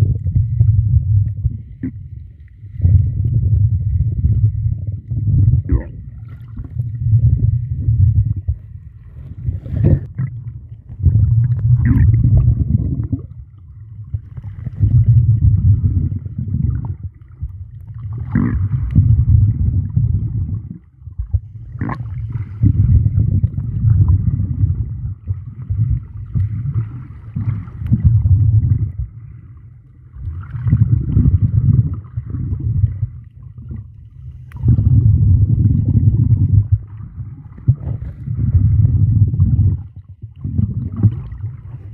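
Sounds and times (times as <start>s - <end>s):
muffled underwater sloshing: 0.0s - 41.9s.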